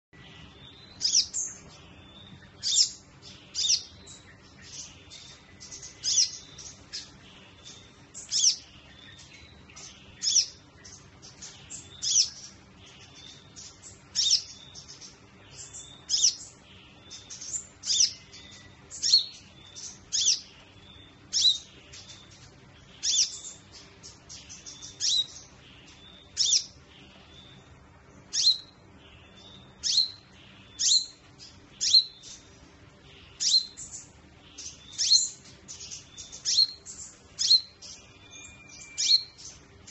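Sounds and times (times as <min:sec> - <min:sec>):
sunbird high-pitched calls: 0:00.2 - 0:39.9.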